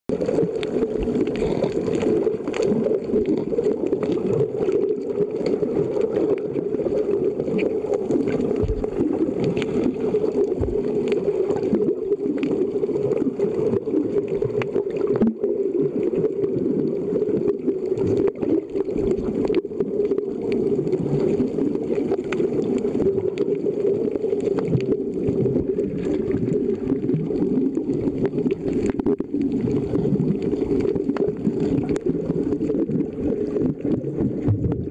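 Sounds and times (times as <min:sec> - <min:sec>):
faint clicks and crackles: 0:00.1 - 0:34.9
underwater low rumble: 0:00.1 - 0:34.9.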